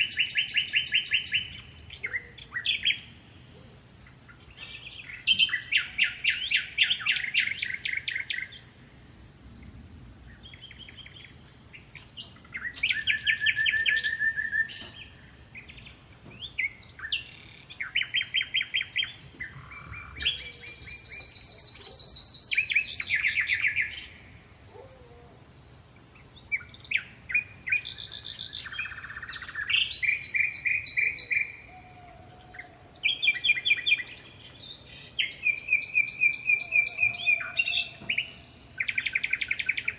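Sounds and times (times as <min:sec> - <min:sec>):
songbirds singing trilled phrases: 0:00.0 - 0:08.8, 0:10.3 - 0:25.0, 0:26.1 - 0:39.9.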